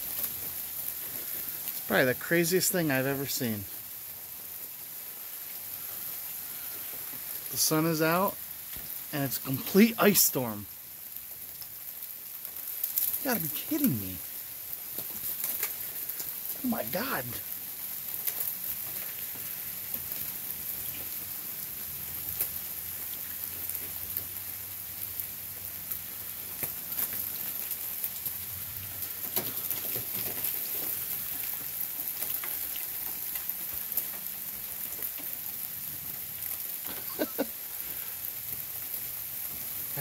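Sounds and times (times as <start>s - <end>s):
small ticks and clicks of ice: 0.0s - 1.9s, 3.7s - 7.6s, 11.0s - 13.2s, 14.2s - 16.6s, 17.4s - 40.0s
freezing rain hissing: 0.0s - 40.0s.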